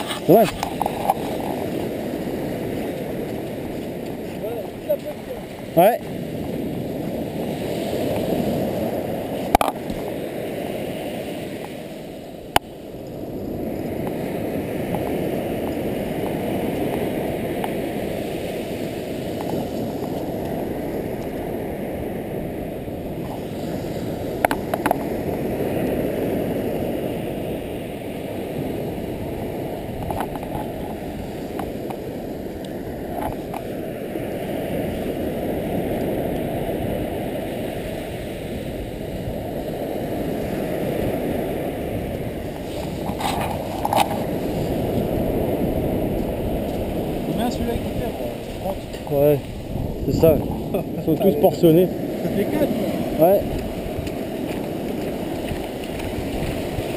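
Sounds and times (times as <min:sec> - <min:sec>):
surf breaking on beach: 0:00.0 - 0:56.9.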